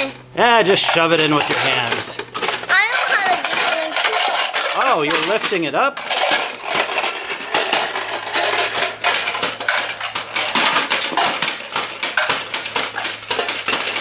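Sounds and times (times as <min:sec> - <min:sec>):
plastic toy parts clattering: 0:00.8 - 0:14.0.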